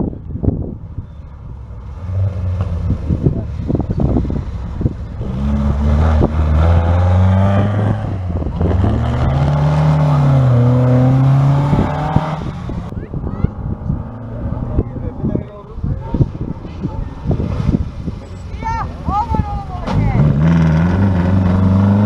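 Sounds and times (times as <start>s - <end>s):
rally cars driving past revving: 1.3s - 22.0s.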